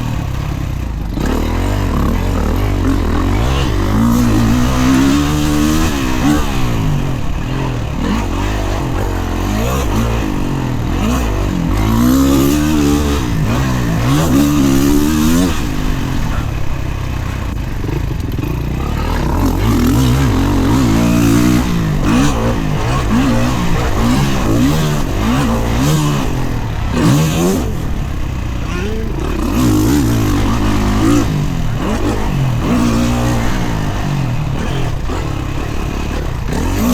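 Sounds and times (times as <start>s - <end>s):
motocross bike engine revving: 0.0s - 36.9s.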